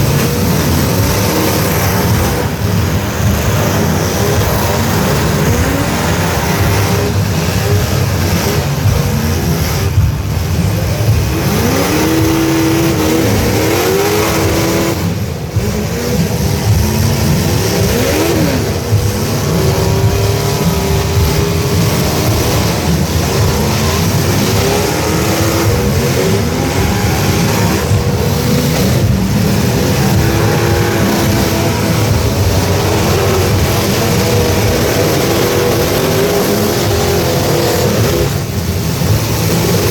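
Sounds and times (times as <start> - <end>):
truck engines revving: 0.0 - 39.9.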